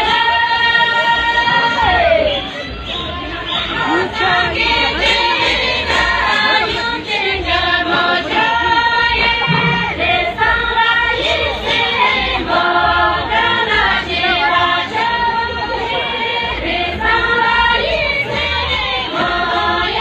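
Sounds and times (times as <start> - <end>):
women singing in unison: 0.0 - 20.0.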